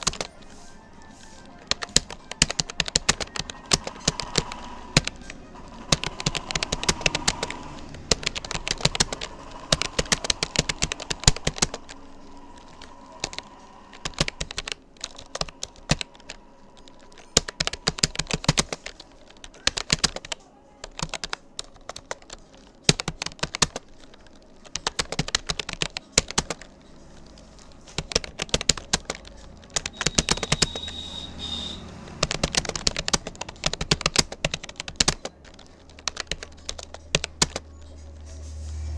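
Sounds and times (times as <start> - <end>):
computer keyboard keys clicking: 0.0 - 38.4.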